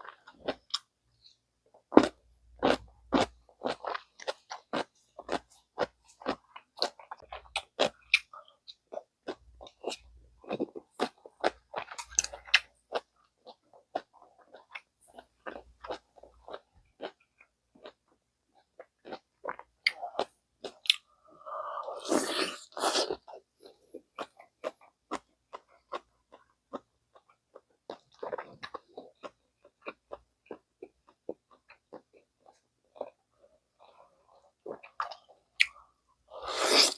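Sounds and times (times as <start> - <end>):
chewing and wet mouth sounds: 0.0 - 36.9.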